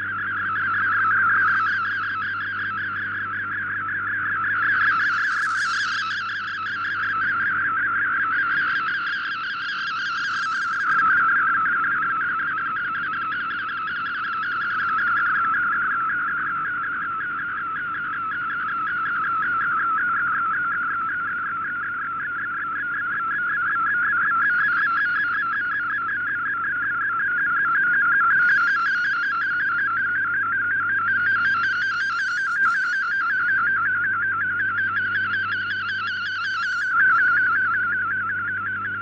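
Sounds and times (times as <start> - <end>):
warbling data tone: 0.0 - 39.0.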